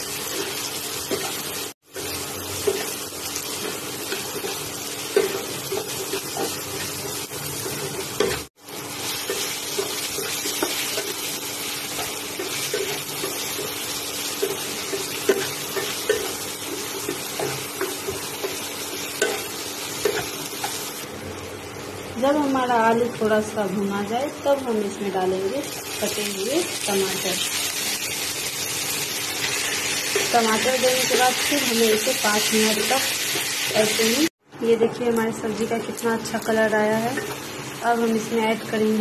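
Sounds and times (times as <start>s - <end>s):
vegetables sizzling in oil: 0.0s - 34.3s, 34.9s - 39.0s.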